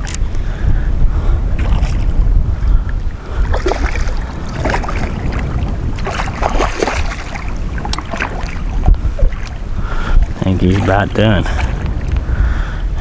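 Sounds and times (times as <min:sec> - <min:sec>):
water splashing around kayak: 0:00.0 - 0:13.0
wind rumbling on microphone: 0:00.0 - 0:13.0.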